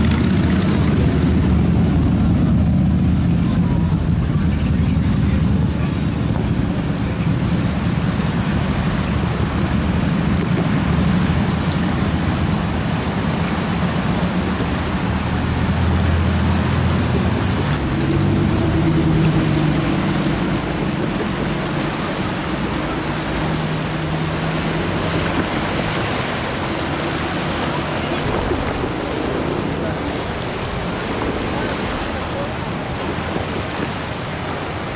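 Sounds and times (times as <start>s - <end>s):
low rumble: 0.0s - 34.1s
floodwater rushing over rapids: 0.0s - 34.9s.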